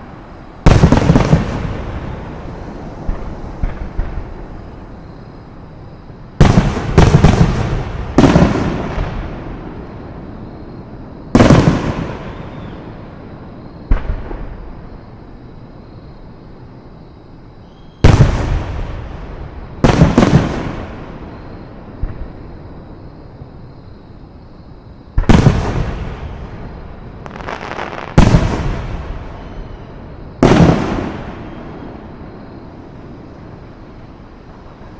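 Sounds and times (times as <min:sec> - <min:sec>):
fireworks booming with echo: 0:00.0 - 0:15.1, 0:17.8 - 0:23.6, 0:25.1 - 0:34.9.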